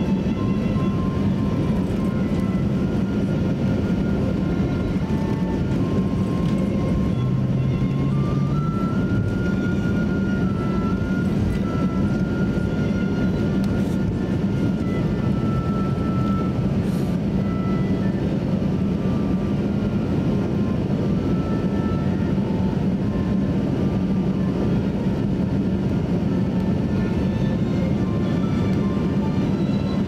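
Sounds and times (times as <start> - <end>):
airplane cabin rumble: 0.0 - 30.0.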